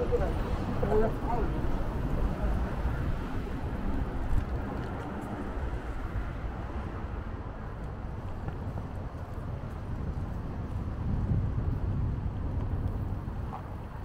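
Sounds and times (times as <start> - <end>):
passing traffic: 0.0 - 14.0
wind rumble on microphone: 0.0 - 14.0.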